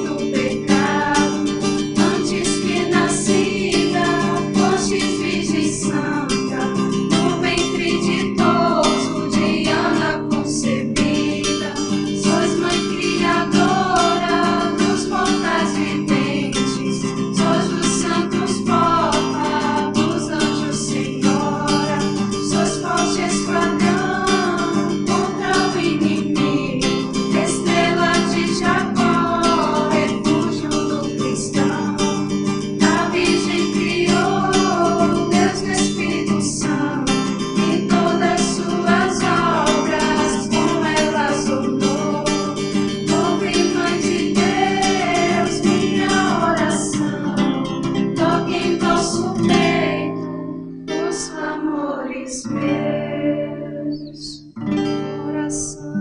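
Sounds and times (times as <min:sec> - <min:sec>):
women singing a hymn: 0:00.0 - 0:54.4, 0:55.2 - 0:56.0
strummed acoustic guitar: 0:00.0 - 0:56.0.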